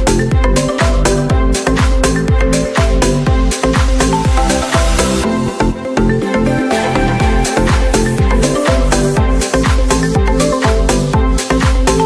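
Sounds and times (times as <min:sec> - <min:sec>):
deep bass kicks: 0:00.0 - 0:05.6, 0:07.0 - 0:12.0
electronic dance music: 0:00.0 - 0:12.0
held synth chords: 0:00.0 - 0:12.0.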